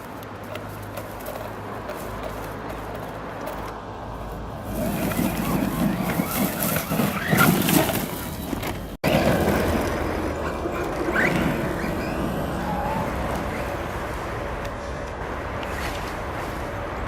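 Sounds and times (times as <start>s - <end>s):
rc car motor and tyres rushing: 0.0s - 17.0s.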